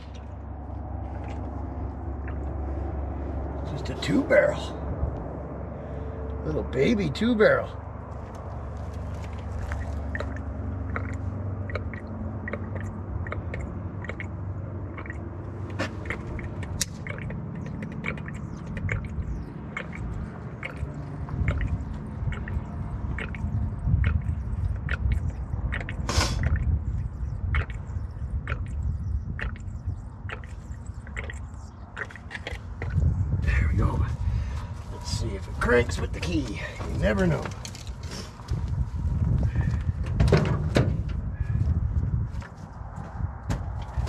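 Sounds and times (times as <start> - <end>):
gasoline gurgling and dripping: 0.0 - 42.0
low steady rumble: 0.0 - 44.0.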